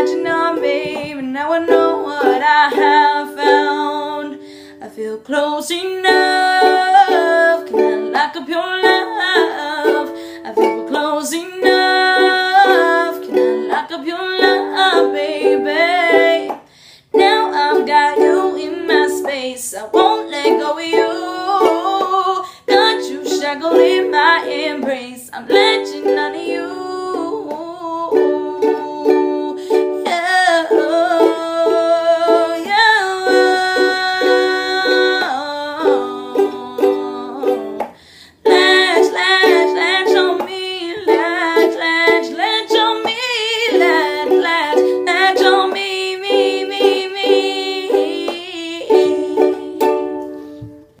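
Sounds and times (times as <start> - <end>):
ukulele strummed chords: 0.0 - 4.5, 5.7 - 51.0
person singing: 0.0 - 51.0.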